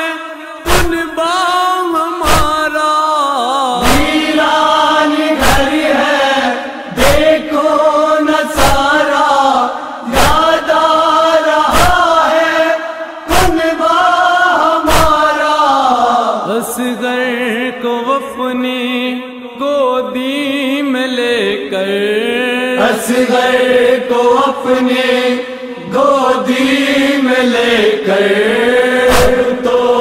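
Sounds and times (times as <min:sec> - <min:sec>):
man chanting mournfully: 0:00.0 - 0:30.0.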